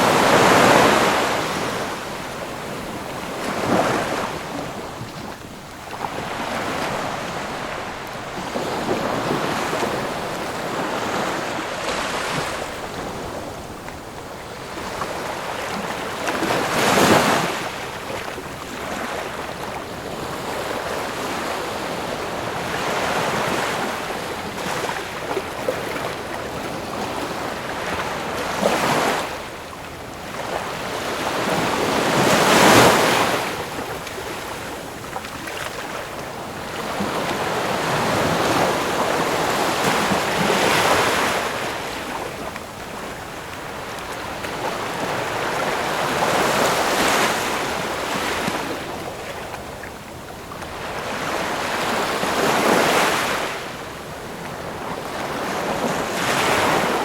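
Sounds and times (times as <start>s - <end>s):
surf washing: 0.0s - 57.0s
waves crashing: 0.0s - 57.0s.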